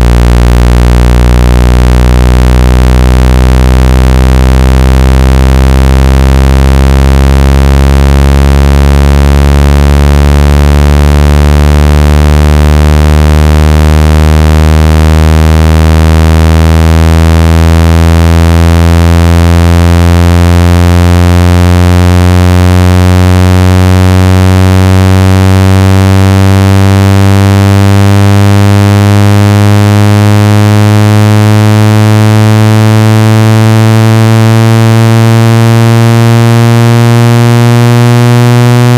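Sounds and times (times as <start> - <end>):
low buzzy synthetic tone rising: 0.0 - 20.5, 23.7 - 38.9.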